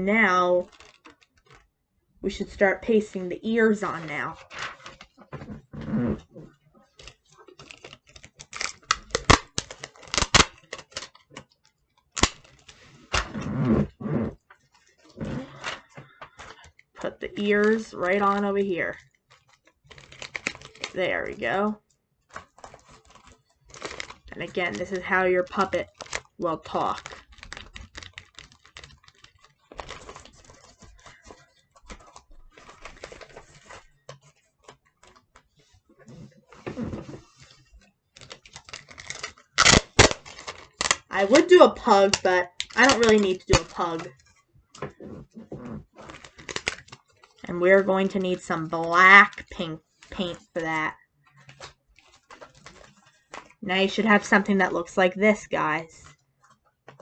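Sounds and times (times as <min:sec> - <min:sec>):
craft materials rustling: 0:00.4 - 0:01.7, 0:02.9 - 0:54.4
paper puppet tapping and crinkling: 0:00.6 - 0:01.7, 0:04.0 - 0:05.7, 0:06.4 - 0:13.3, 0:14.4 - 0:54.4, 0:56.0 - 0:57.0.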